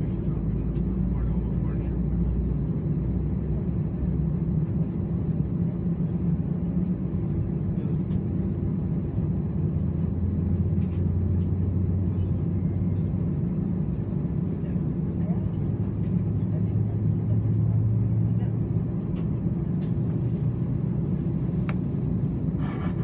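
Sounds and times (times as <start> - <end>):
airplane cabin hum: 0.0 - 23.0.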